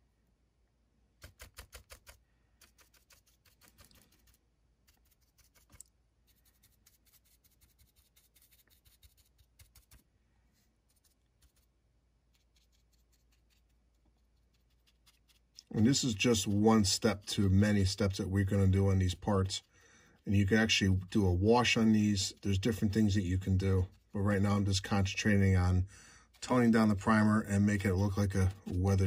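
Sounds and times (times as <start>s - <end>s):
paintbrush tapping and scratching: 1.2s - 29.0s.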